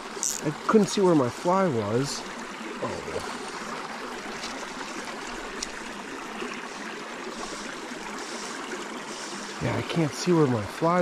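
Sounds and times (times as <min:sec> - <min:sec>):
creek babbling over stones: 0:00.0 - 0:11.0.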